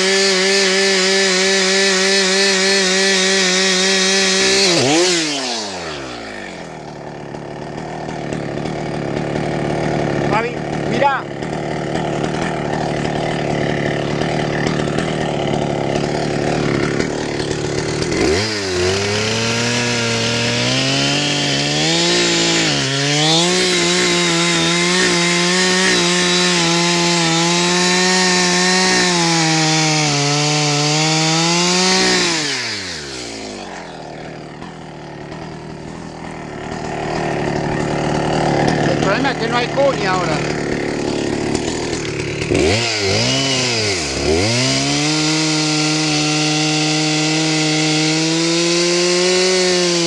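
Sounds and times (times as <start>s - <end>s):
chainsaw revving and cutting wood: 0.0s - 50.0s.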